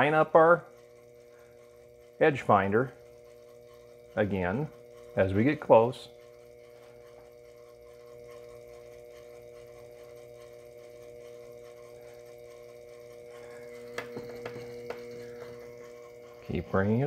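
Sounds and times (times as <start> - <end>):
milling machine spindle motor hum: 0.0 - 17.0.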